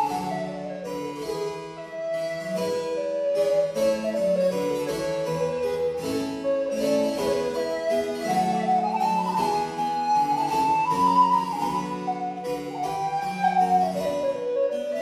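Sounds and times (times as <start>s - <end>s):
plucked harpsichord notes: 0.0s - 15.0s
recorder melody: 0.0s - 15.0s.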